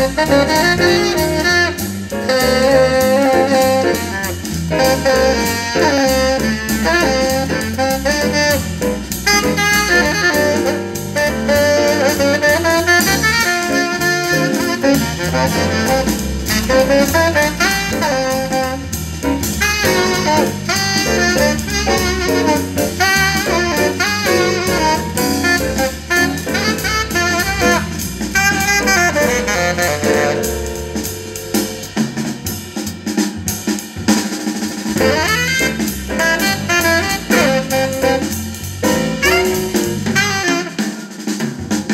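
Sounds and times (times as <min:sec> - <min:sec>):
saxophone: 0:00.0 - 0:32.0, 0:35.0 - 0:41.9
drum kit: 0:00.0 - 0:41.9.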